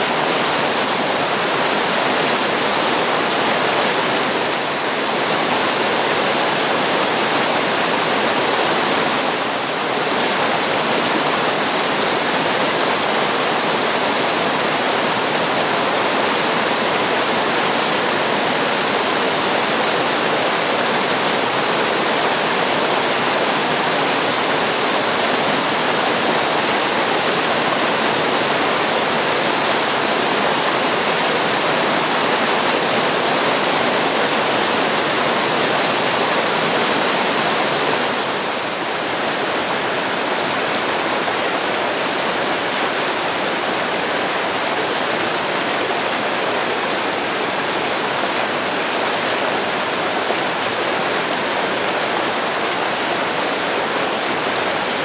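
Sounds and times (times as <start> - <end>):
river rapids rushing: 0.0 - 55.0.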